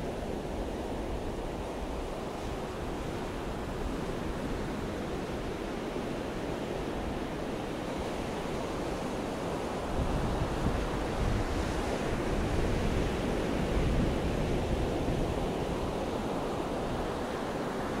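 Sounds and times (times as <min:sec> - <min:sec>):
surf washing on beach: 0:00.0 - 0:18.0.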